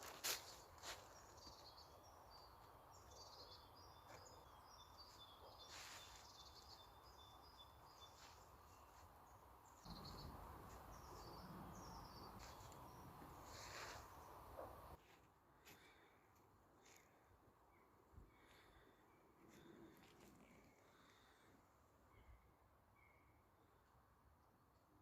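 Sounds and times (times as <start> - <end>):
quiet outdoor hiss: 0.0 - 25.0
faint birdsong chirps: 0.1 - 25.0.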